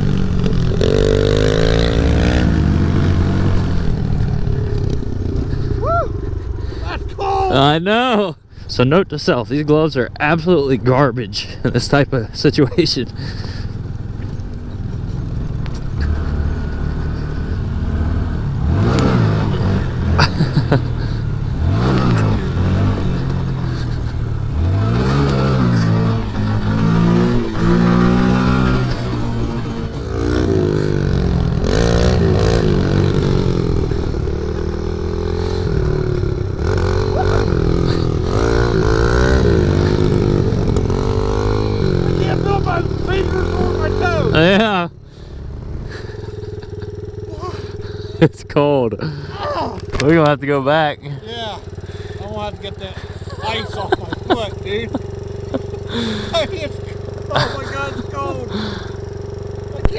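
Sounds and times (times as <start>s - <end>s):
mini bike engines revving: 0.0s - 8.2s, 9.4s - 59.9s.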